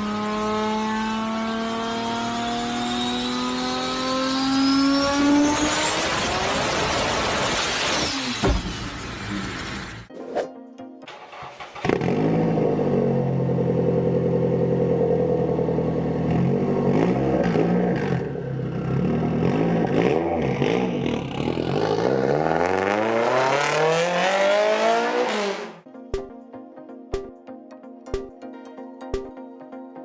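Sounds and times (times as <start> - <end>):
car engine revving: 0.0 - 9.9, 11.1 - 25.9.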